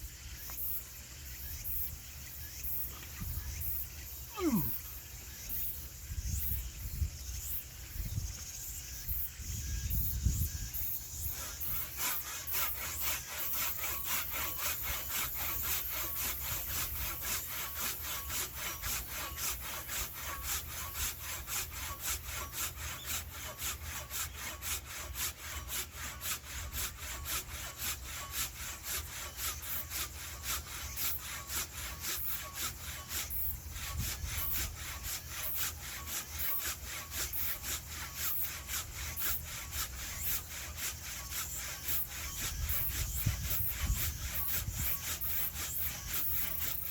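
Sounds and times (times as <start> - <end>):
hand saw cutting wood: 2.6 - 5.7, 10.0 - 46.9.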